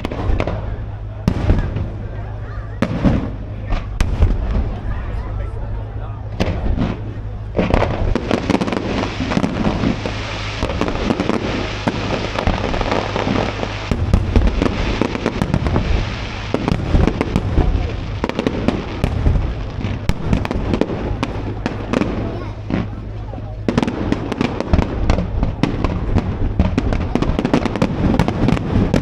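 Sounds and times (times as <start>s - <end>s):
fireworks bangs: 0.0s - 29.0s
fireworks crackling and popping: 0.0s - 29.0s.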